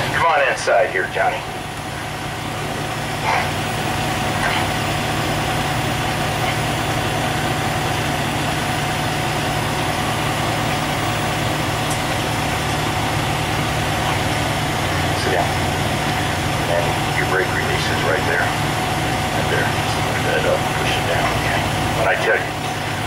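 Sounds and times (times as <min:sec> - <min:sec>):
diesel engine idling: 0:00.0 - 0:23.0
thin steady whine: 0:00.0 - 0:23.0.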